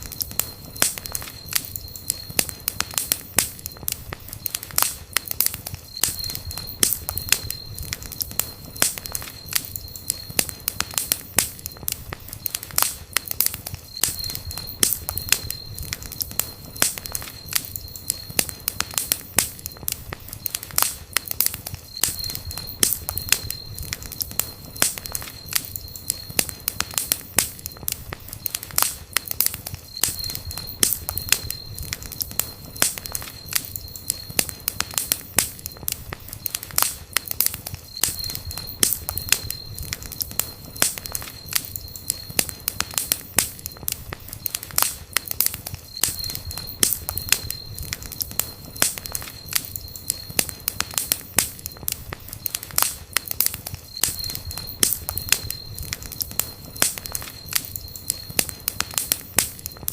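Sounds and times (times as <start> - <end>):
thin high whistle: 0.0 - 20.8, 21.5 - 59.9
campfire crackling and popping: 0.0 - 59.9.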